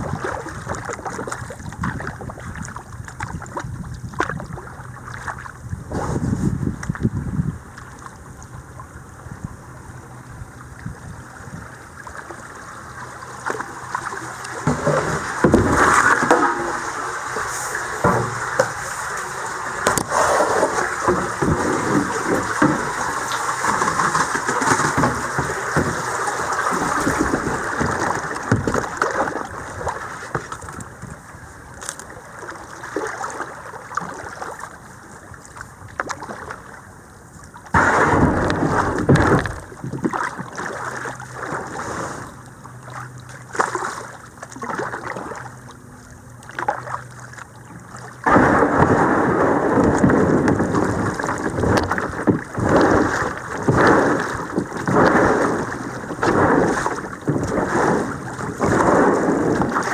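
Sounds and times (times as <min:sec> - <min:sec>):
water splashing around kayak: 0:00.0 - 0:59.9.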